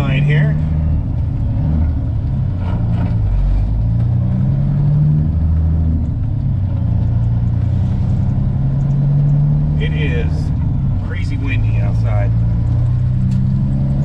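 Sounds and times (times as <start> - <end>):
truck diesel engine accelerating: 0.0 - 14.0.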